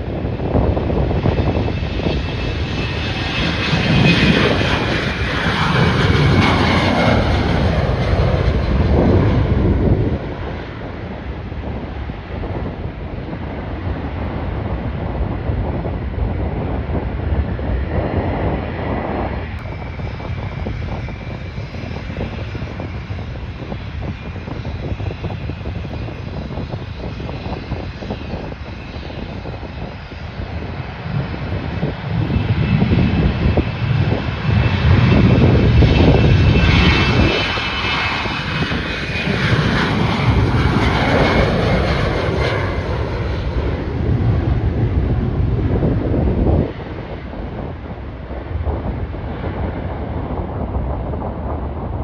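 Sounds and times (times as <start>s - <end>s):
airliner engines whining: 0.0s - 52.0s.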